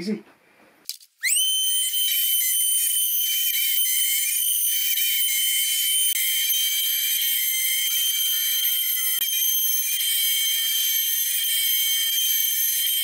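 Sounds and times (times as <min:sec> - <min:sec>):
router spindle high-pitched whine: 0:01.2 - 0:13.0.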